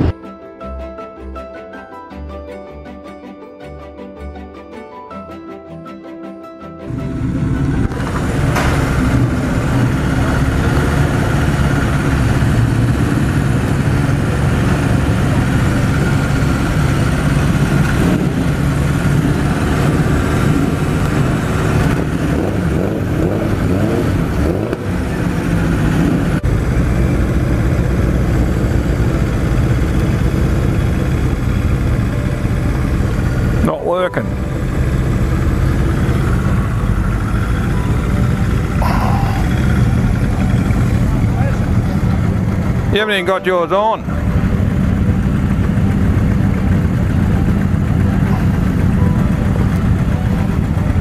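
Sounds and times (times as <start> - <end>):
motorcycle engine running: 6.9 - 51.0.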